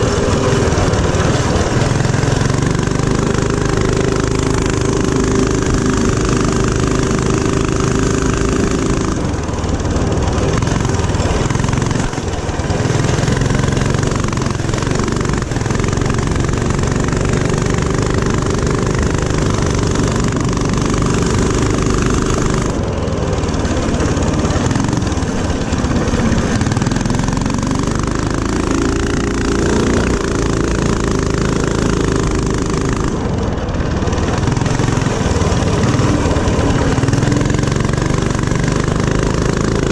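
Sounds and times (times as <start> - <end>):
mini-bike engine revving: 0.0 - 39.9.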